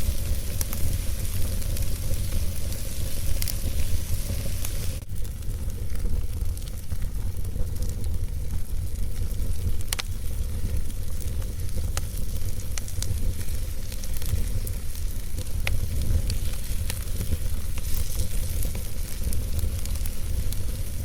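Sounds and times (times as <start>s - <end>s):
fire crackling and popping: 0.0s - 21.0s
fire rumbling and hissing: 0.0s - 21.0s.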